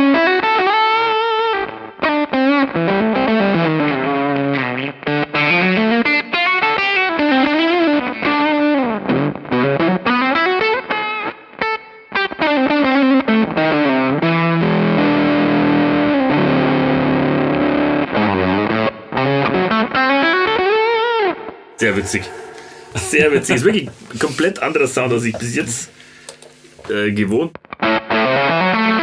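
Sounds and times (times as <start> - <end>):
fuzz electric guitar: 0.0 - 24.3, 27.6 - 29.0.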